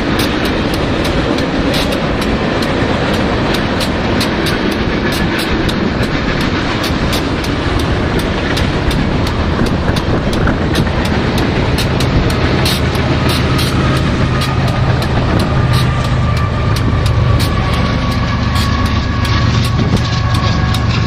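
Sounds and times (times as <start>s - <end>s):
freight train wheels rolling: 0.0s - 21.0s
wheels clicking over rail joints: 0.0s - 21.0s.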